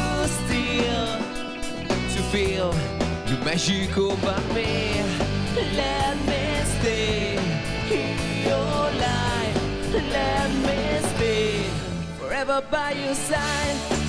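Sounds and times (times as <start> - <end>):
drums with cymbals: 0.0 - 11.9, 13.3 - 14.0
bass guitar: 0.0 - 14.0
electric guitar: 0.0 - 14.0
singer singing: 0.0 - 14.0.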